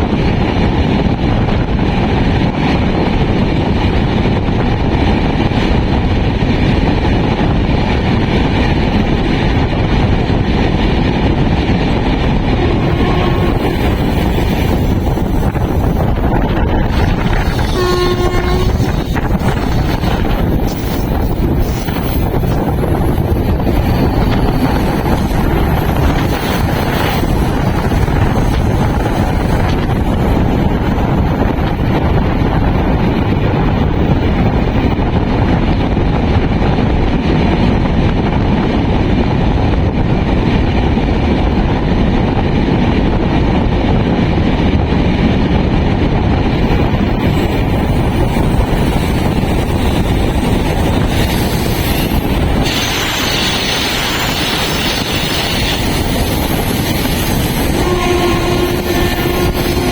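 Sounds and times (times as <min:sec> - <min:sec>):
train rumbling on track: 0:00.0 - 0:59.9
wind buffeting microphone: 0:00.0 - 0:59.9.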